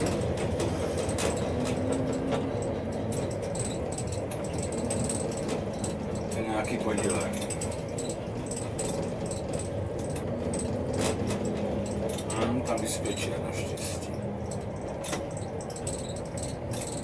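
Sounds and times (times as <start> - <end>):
small clicks and rattles: 0.0 - 17.0
tram running along track: 0.0 - 17.0.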